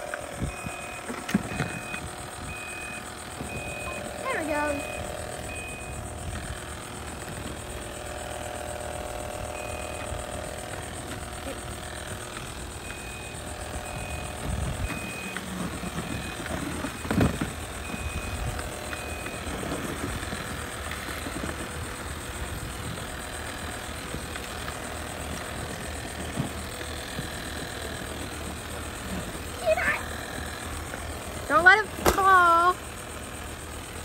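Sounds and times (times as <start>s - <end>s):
robot vacuum motors whirring: 0.0s - 34.0s.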